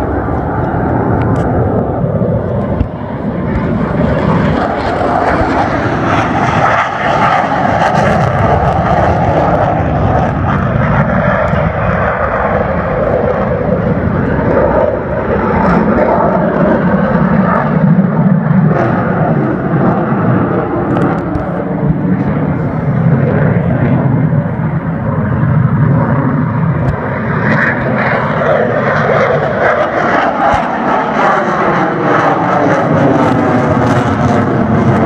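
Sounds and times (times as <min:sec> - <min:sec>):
jet aircraft flying past: 0:00.0 - 0:35.0.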